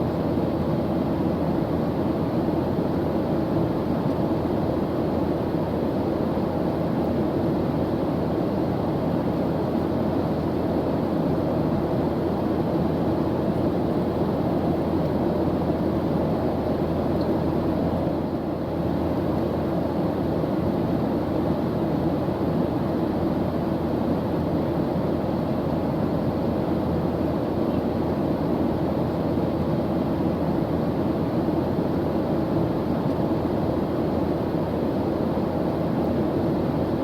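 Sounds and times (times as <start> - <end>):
airplane engine drone: 0.0 - 37.0.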